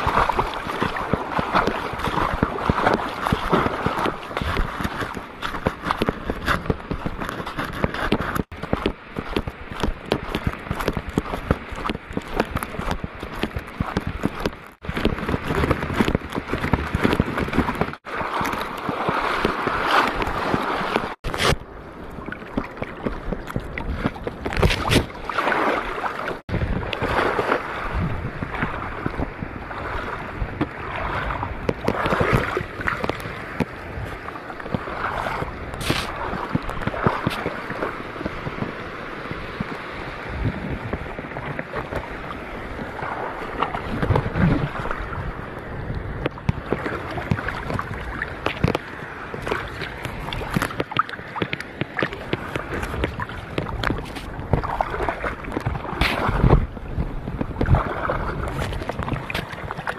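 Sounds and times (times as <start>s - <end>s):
water sloshing and splashing: 0.0s - 59.9s
wind buffeting microphone: 0.0s - 59.9s.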